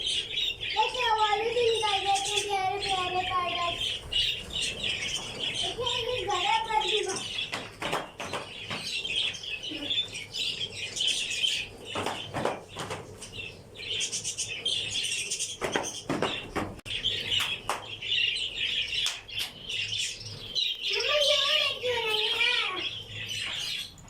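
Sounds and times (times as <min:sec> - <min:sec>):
wings flapping: 0:00.0 - 0:22.8
parrots chirping and chattering: 0:00.0 - 0:24.0.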